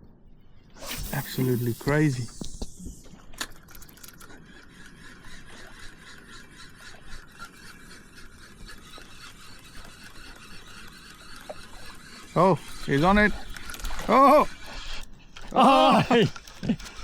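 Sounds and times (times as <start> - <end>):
fishing reel gear whirring: 0.8 - 17.0.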